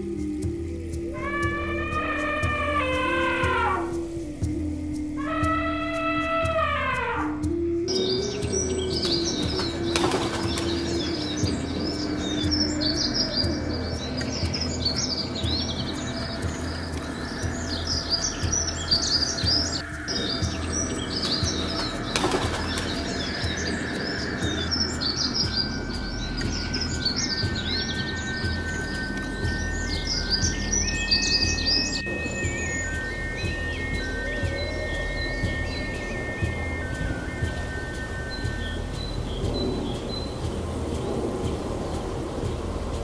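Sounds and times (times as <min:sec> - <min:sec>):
small birds chirping and twittering: 0:00.0 - 0:43.0.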